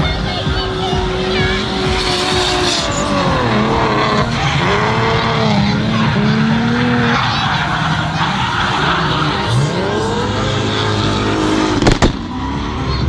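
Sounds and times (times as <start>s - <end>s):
car engines revving high: 0.0s - 13.0s
tyres squealing: 0.5s - 11.3s.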